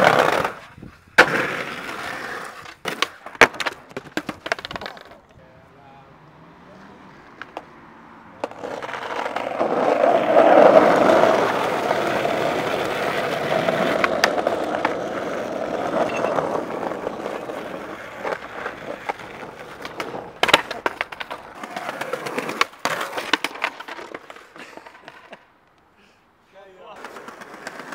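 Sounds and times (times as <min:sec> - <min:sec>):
skateboard clacks: 0:00.0 - 0:05.4, 0:07.2 - 0:25.5, 0:27.0 - 0:27.9
skateboard wheels rolling on tarmac: 0:00.0 - 0:27.9.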